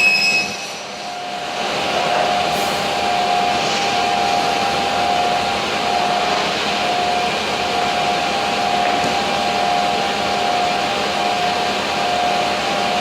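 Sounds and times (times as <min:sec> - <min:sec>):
machine whine: 0:00.0 - 0:13.0
wood machining centre whirring: 0:00.0 - 0:13.0.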